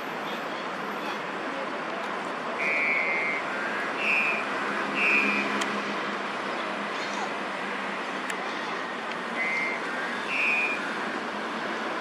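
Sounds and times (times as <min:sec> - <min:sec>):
city traffic noise: 0:00.0 - 0:12.0.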